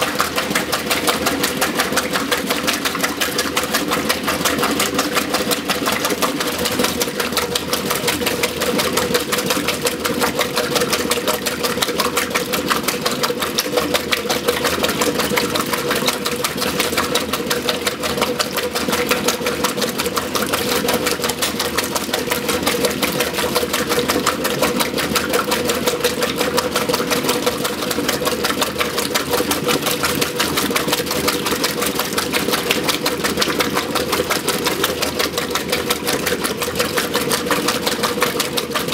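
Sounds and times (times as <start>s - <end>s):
agitator swishing water: 0.0s - 38.9s
washing machine motor running: 0.0s - 38.9s.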